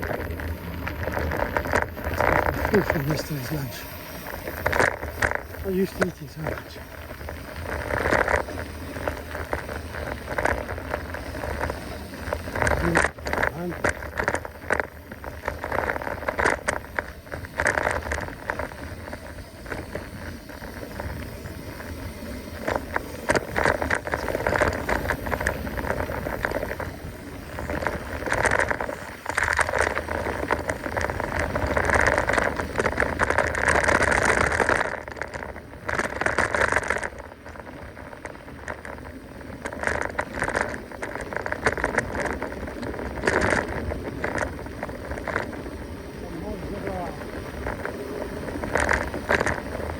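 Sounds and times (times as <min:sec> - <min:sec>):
bike clicking and rattling: 0:00.0 - 0:49.9
bike tyres rolling on dirt: 0:00.0 - 0:49.9.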